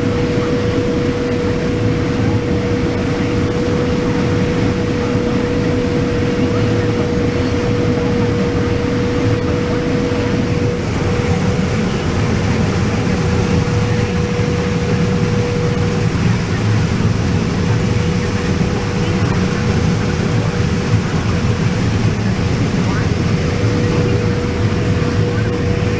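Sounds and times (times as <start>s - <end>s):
combine harvester drone: 0.0s - 25.9s
thin steady whine: 0.0s - 25.9s.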